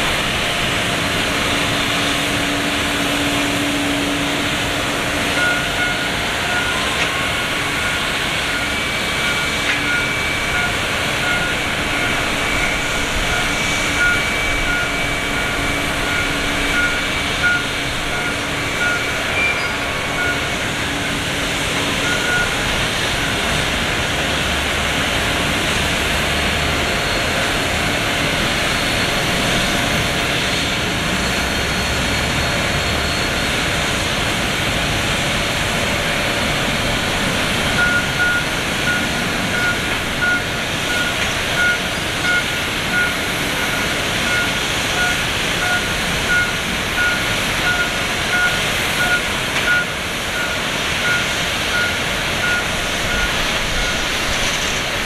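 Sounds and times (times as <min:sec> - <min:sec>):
airport ambience: 0:00.0 - 0:55.0
distant jet engine: 0:00.0 - 0:55.0
vehicle reversing alarm beeps: 0:00.0 - 0:55.0.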